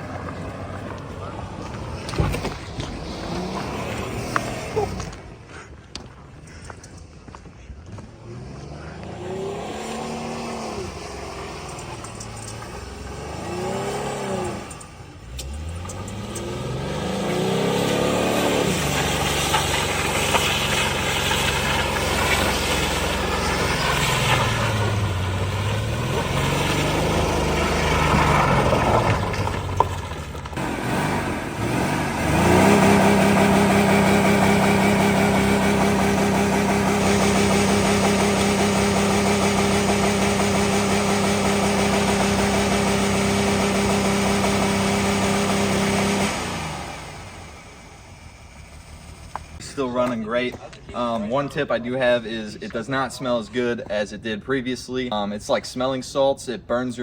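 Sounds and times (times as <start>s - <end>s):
car engine revving: 0.0s - 5.5s, 8.0s - 49.9s.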